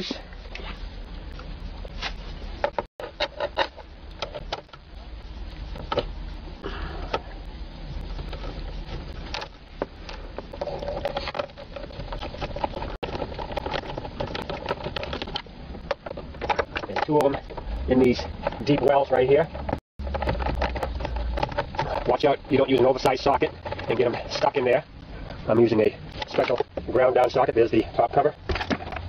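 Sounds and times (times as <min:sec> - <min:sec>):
steady whir: 0:00.0 - 0:26.9.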